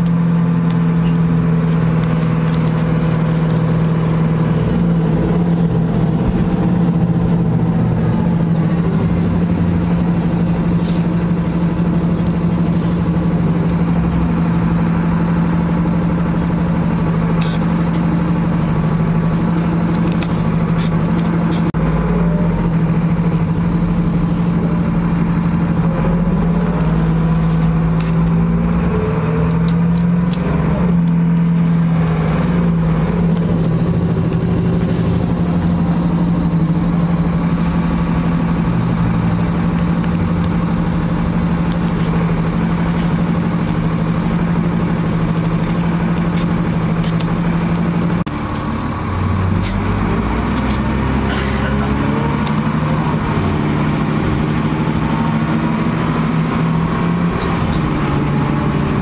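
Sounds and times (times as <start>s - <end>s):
bus diesel engine hum: 0.0s - 59.0s.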